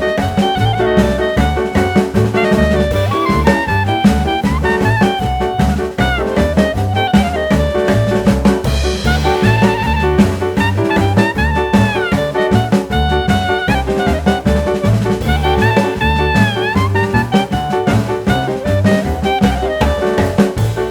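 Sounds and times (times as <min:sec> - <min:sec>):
drum kit swing beat: 0:00.0 - 0:20.9
horns: 0:00.0 - 0:20.9
saxophone: 0:00.0 - 0:20.9
upbeat jazz music: 0:00.0 - 0:20.9.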